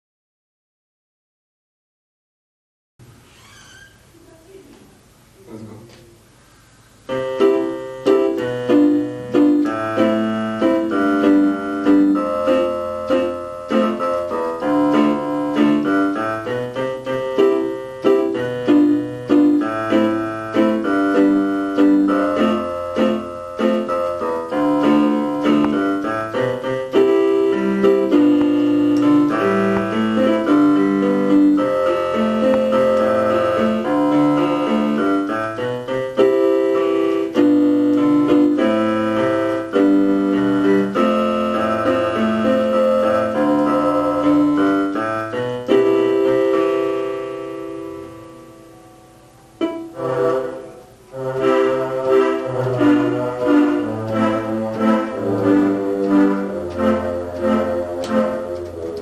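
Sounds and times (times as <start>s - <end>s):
electronic keyboard melody: 7.1s - 59.0s.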